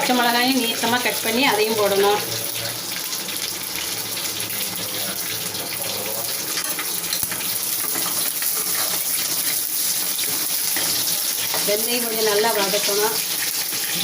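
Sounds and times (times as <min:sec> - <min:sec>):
garlic and chillies sizzling in oil: 0:00.0 - 0:14.0.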